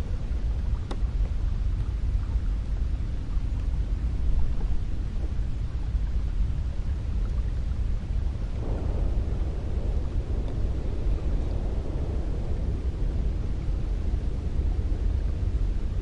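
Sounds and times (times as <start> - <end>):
deep rumble of wind: 0.0 - 16.0.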